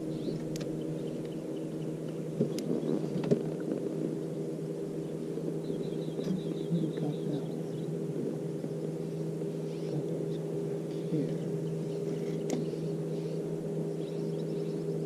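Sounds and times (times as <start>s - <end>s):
small boat motor humming: 0.0s - 15.0s.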